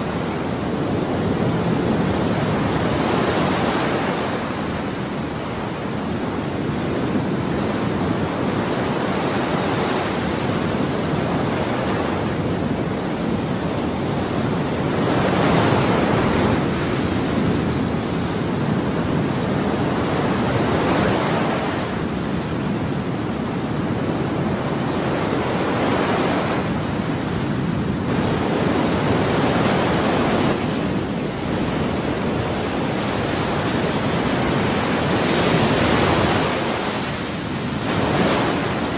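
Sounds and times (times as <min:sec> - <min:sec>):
ocean waves washing on shore: 0:00.0 - 0:38.9.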